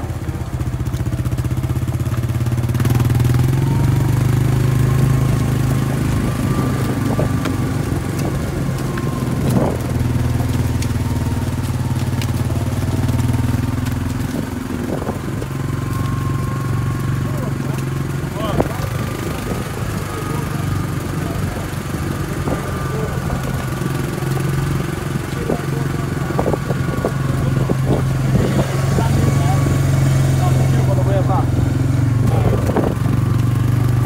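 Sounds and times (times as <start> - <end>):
small engine running: 0.0 - 34.0.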